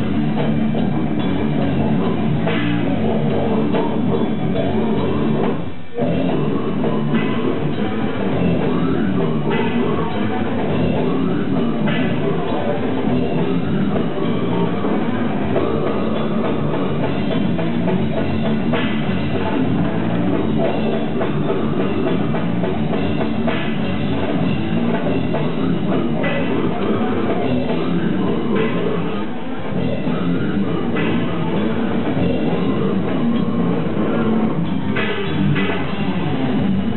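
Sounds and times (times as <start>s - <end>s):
distorted electric guitars: 0.0s - 36.9s
drum kit: 0.0s - 36.9s.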